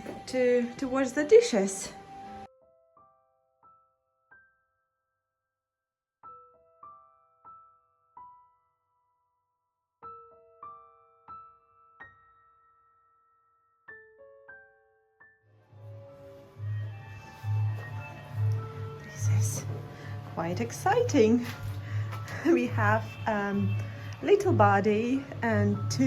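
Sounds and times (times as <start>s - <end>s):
soft piano music: 0.0s - 5.3s, 6.2s - 26.0s.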